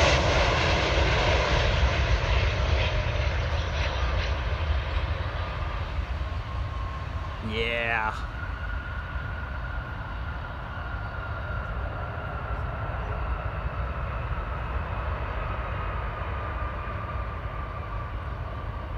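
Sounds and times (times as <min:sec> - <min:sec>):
jet engine rumble: 0:00.0 - 0:18.9
jet engine whine dropping in pitch: 0:00.0 - 0:18.9.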